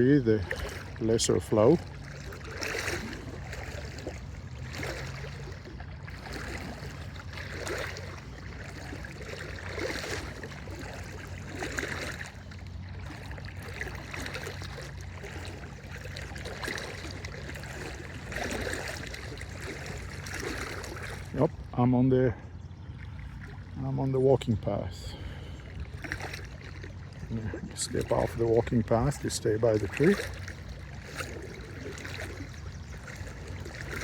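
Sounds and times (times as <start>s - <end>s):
water sloshing around wading legs: 0.0s - 34.0s.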